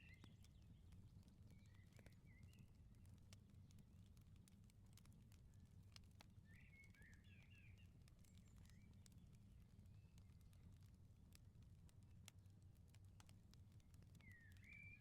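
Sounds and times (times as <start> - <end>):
firepit crackling and popping: 0.0 - 15.0.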